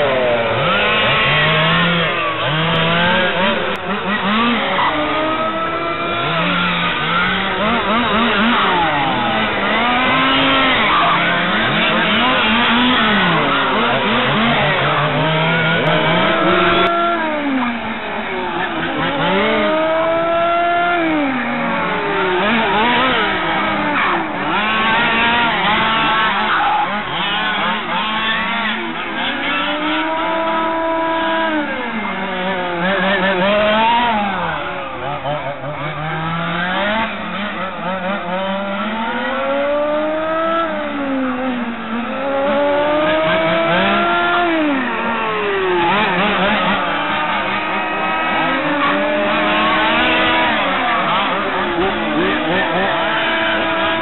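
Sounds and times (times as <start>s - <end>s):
small racing engines revving: 0.0s - 54.0s.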